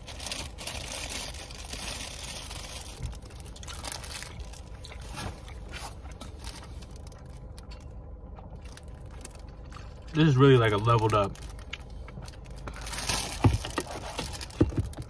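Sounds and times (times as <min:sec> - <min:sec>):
person chewing bread: 0:00.0 - 0:10.1, 0:11.5 - 0:15.0
small clicks and crinkling: 0:00.0 - 0:15.0.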